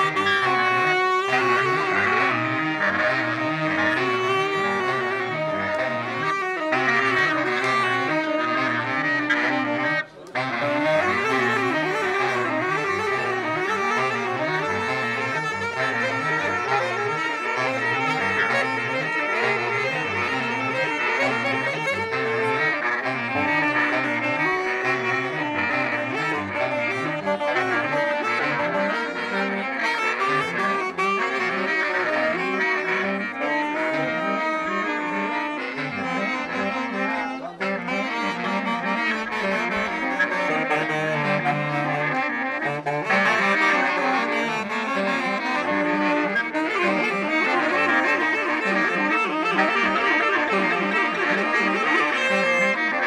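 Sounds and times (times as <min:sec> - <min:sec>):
held melody notes: 0:00.0 - 0:53.0.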